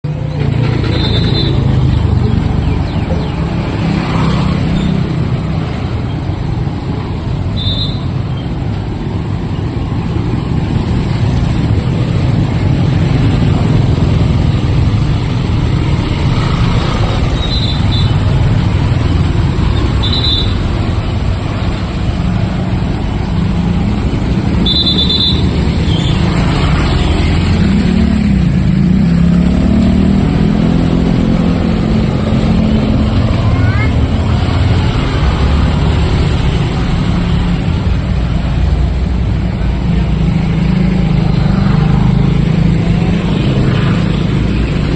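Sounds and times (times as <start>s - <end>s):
passing vehicle engines: 0.0s - 44.9s.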